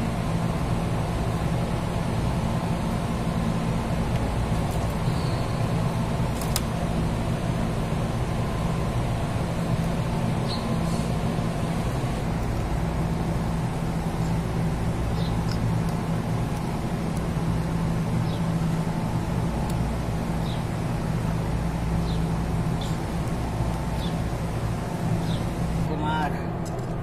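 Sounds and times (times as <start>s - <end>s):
machinery humming: 0.0s - 27.0s.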